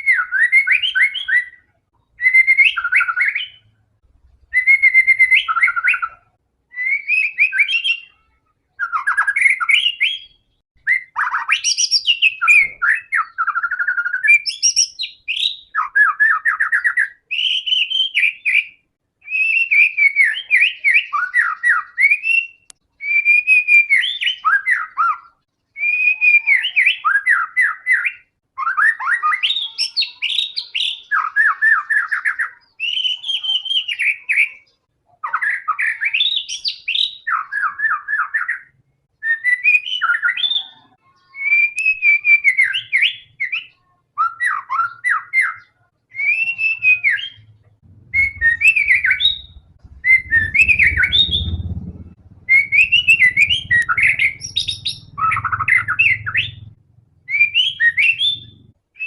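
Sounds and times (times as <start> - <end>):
bird whistled song with trills: 0.0 - 3.7, 4.5 - 8.2, 8.8 - 59.0.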